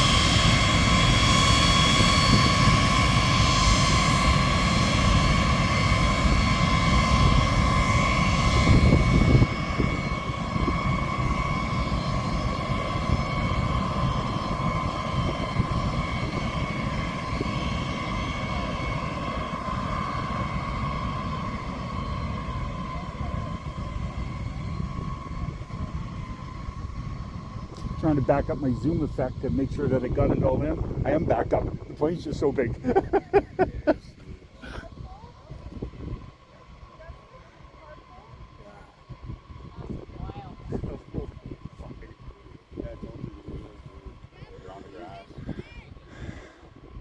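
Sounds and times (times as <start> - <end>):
aircraft engines whining: 0.0 - 47.0.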